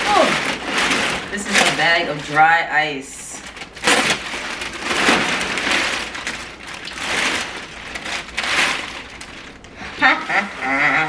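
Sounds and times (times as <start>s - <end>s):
foil liner crinkling and rustling: 0.0s - 11.0s.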